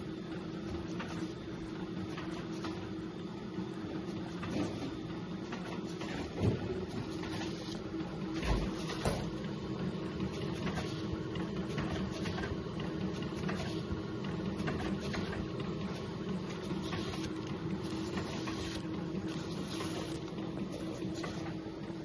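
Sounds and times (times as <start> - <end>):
printer mechanical whir: 0.0 - 22.0.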